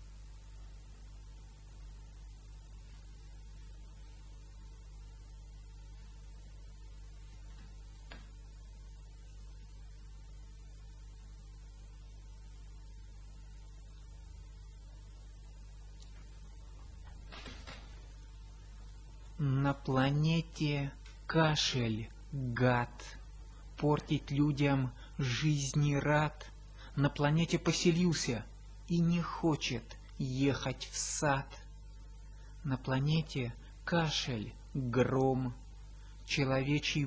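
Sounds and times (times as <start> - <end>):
faint electrical mains hum: 0.0 - 37.0.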